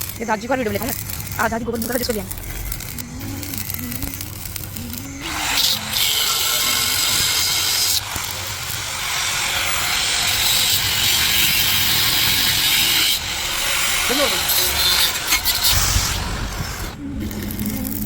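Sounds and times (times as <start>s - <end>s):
welding arc crackling and hissing: 0.0s - 18.0s.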